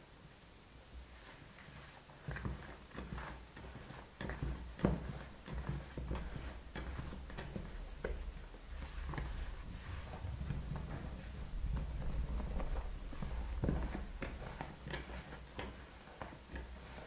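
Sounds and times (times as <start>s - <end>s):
low steady hum: 0.0s - 17.0s
spatula stirring batter in bowl: 0.9s - 17.0s.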